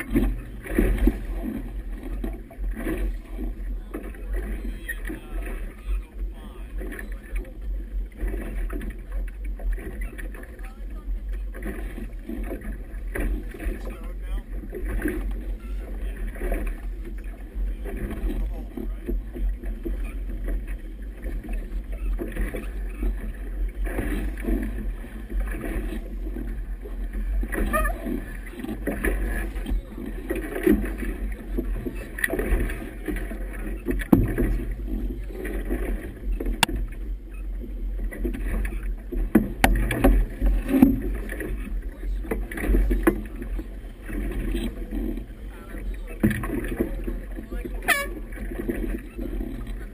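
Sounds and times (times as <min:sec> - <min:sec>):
low rumble: 0:00.0 - 0:49.9
water slapping against boat hull: 0:00.0 - 0:49.9.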